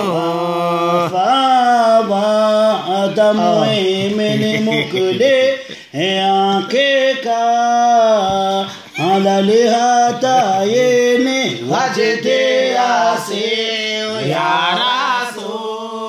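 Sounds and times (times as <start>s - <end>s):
man chanting unaccompanied: 0.0s - 16.0s.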